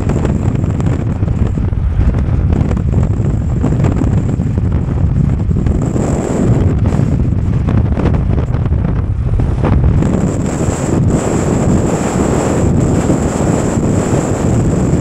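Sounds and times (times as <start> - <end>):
vehicle road noise: 0.0 - 15.0
wind buffeting microphone: 0.0 - 15.0.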